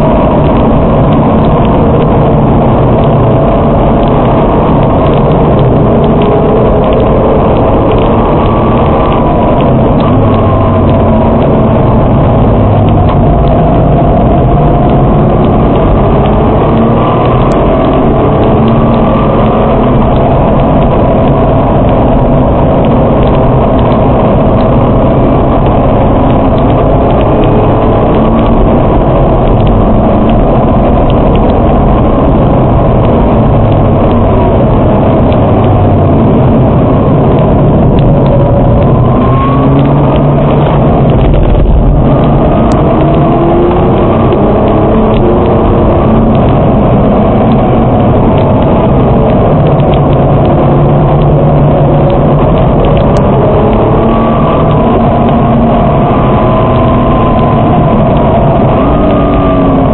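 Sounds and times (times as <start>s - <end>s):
car engine at speed: 0.0s - 59.9s
tyre and road noise: 0.0s - 59.9s.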